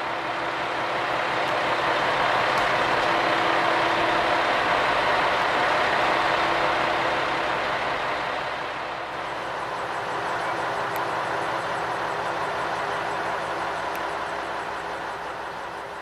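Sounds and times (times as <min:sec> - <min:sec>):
diesel railcar engine drone: 0:00.0 - 0:16.0.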